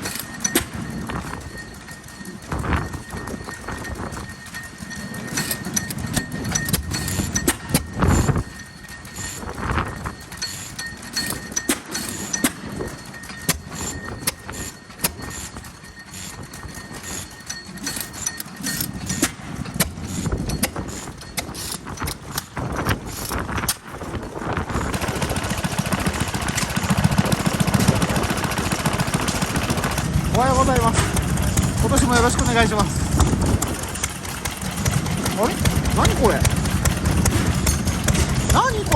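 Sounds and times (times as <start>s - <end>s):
rapid engine chugging: 0.0s - 38.9s
stationary engines running: 0.0s - 38.9s.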